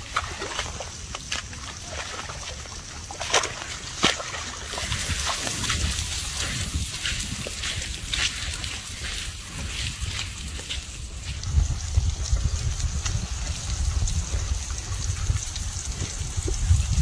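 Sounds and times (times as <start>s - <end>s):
wet mud squelching and splashing: 0.0s - 17.0s.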